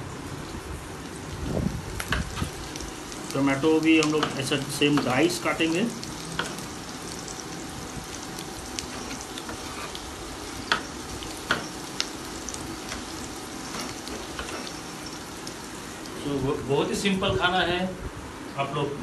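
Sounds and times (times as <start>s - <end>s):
onions sizzling in a frying pan: 0.0s - 17.5s.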